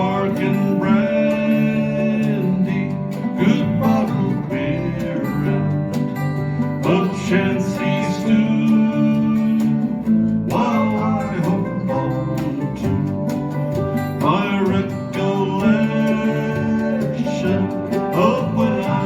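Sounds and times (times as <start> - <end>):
acoustic guitars: 0.0 - 19.0
bass: 0.0 - 19.0
mandolin: 0.0 - 19.0
percussion: 0.0 - 19.0.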